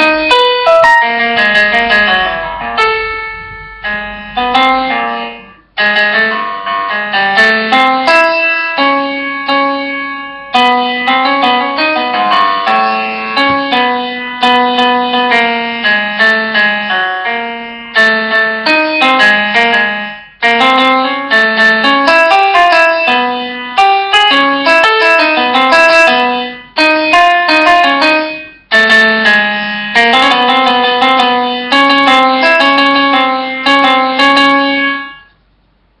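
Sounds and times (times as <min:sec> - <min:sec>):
solo piano melody: 0:00.0 - 0:36.0.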